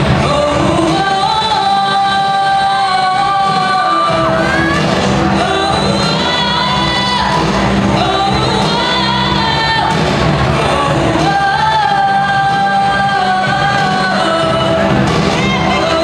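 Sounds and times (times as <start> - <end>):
girl singing into microphone: 0.0 - 16.0.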